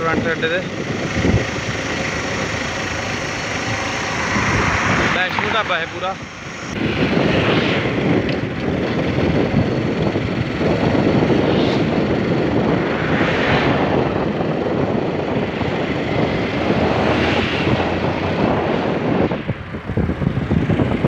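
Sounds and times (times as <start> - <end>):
motorcycle engine and tyre noise: 0.0 - 21.0
wind rushing on microphone: 0.0 - 21.0.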